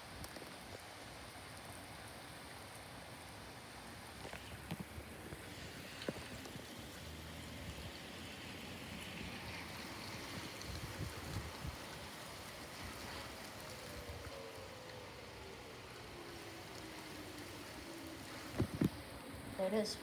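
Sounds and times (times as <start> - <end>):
wind: 0.0 - 20.0
heavy rain: 0.5 - 20.0
distant tornado siren: 0.9 - 20.0.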